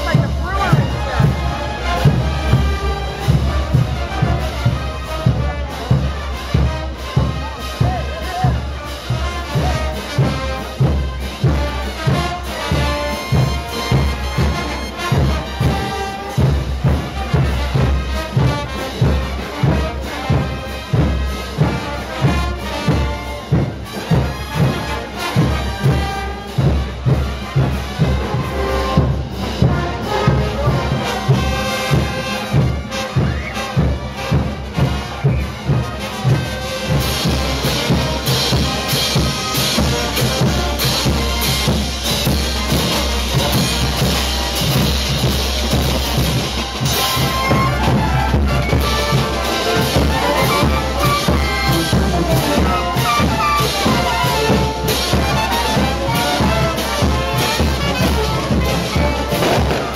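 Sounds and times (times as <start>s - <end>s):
bass drum: 0.0s - 59.9s
brass band playing: 0.0s - 59.9s.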